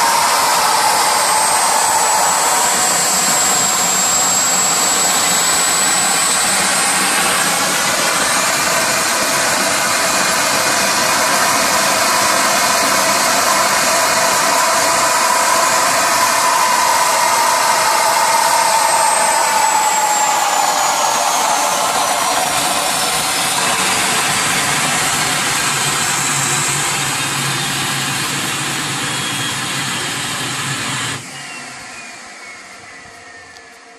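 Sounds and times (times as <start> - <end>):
gas turbine roaring: 0.0 - 33.9
high turbine whine: 0.0 - 33.9.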